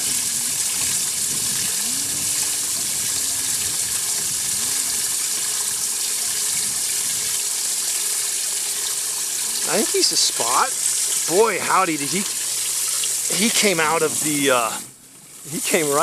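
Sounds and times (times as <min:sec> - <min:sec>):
live-well pump running: 0:00.0 - 0:16.0
water pouring: 0:00.0 - 0:16.0.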